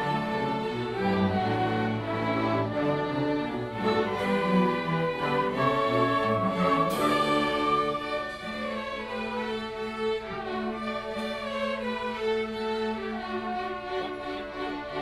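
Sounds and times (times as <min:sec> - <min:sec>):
orchestra bowed strings chords: 0:00.0 - 0:15.0.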